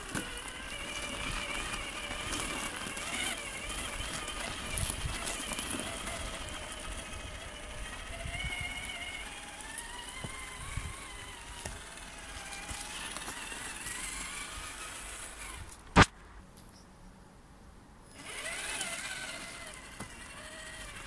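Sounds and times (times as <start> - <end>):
toy car electric motor whining: 0.0 - 15.8, 18.1 - 21.0.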